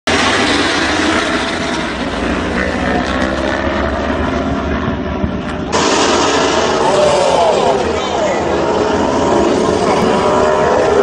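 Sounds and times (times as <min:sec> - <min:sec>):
racing motorcycle engines: 0:00.1 - 0:11.0.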